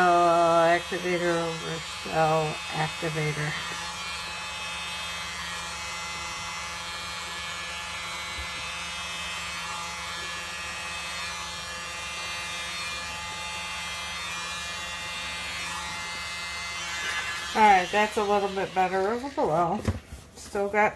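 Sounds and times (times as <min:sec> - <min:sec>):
electric air blower humming: 0:00.0 - 0:20.4.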